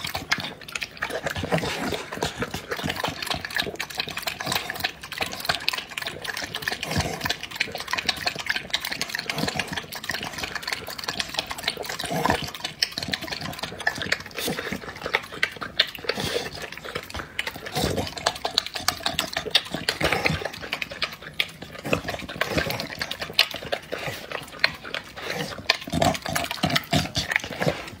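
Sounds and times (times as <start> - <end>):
dog slurping and chewing: 0.0 - 28.0.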